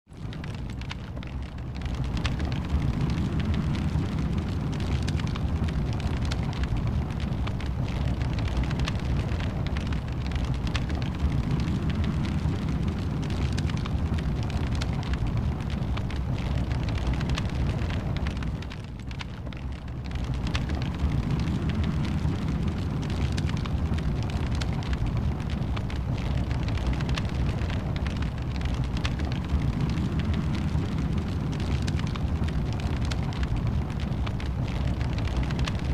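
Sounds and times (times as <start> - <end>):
low rumble of flames: 0.1 - 35.9
wood fire crackling: 0.1 - 35.9.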